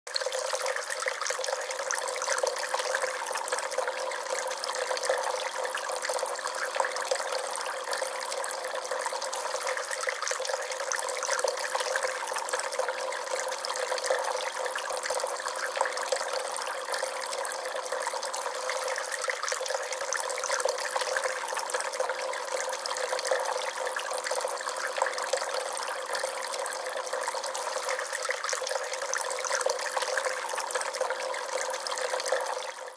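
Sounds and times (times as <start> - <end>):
fountain water trickling and splashing: 0.1 - 32.9.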